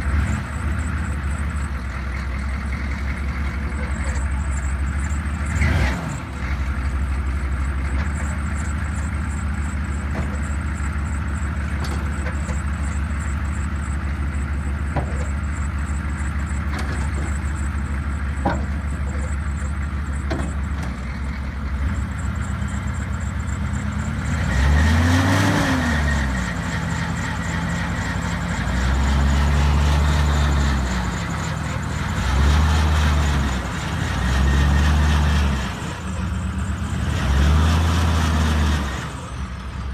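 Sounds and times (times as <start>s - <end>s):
pickup engine idling and revving: 0.0s - 39.9s.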